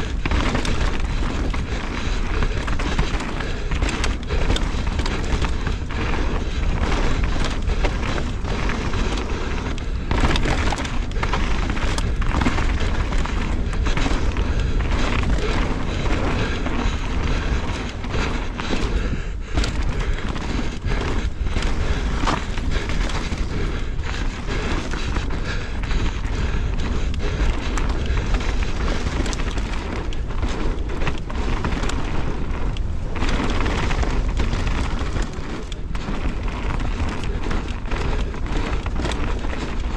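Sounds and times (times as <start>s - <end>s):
bike rattling over bumps: 0.0s - 39.9s
tyres rolling over stones: 0.0s - 39.9s
wind rumbling on microphone: 0.0s - 39.9s.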